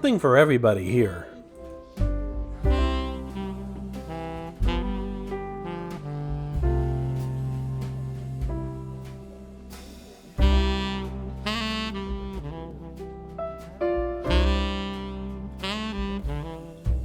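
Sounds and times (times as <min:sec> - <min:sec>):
low bass notes: 0:00.0 - 0:17.0
saxophone jazz music: 0:00.0 - 0:17.0.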